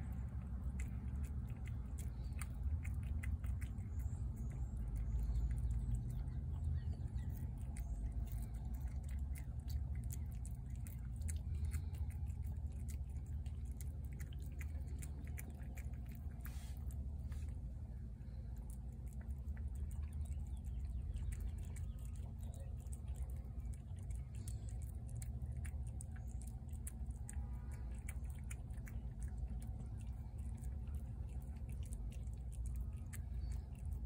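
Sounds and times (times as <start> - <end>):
cat chewing and licking: 0.0 - 34.0.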